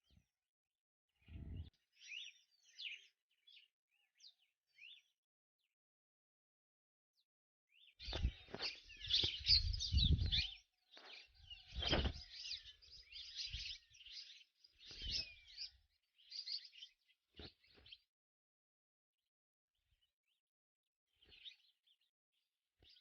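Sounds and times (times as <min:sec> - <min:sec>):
songbirds chirping and twittering: 0:00.0 - 0:00.5, 0:01.1 - 0:05.8, 0:07.1 - 0:18.2, 0:19.8 - 0:20.5, 0:21.1 - 0:23.0.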